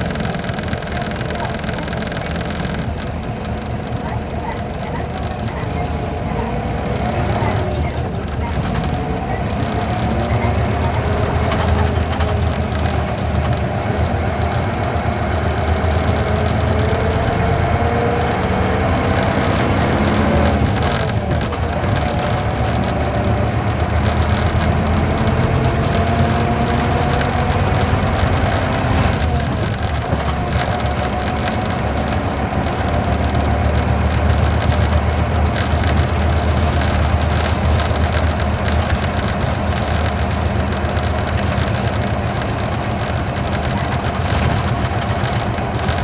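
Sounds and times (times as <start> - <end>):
bus diesel engine rumble: 0.0 - 46.0
road noise: 0.0 - 46.0.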